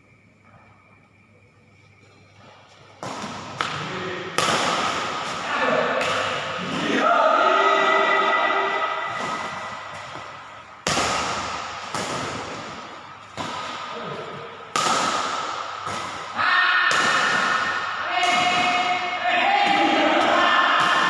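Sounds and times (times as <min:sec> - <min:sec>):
racket hitting shuttlecock: 0:03.0 - 0:07.0, 0:08.1 - 0:21.0.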